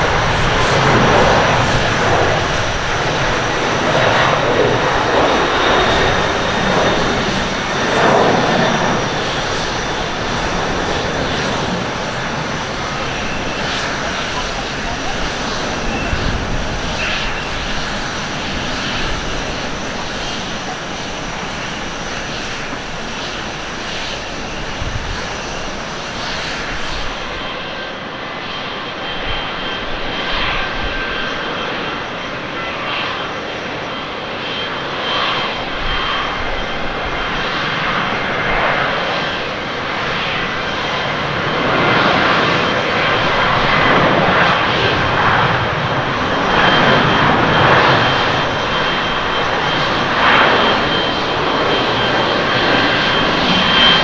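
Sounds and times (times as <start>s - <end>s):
jet engines roaring at takeoff: 0.0s - 54.0s.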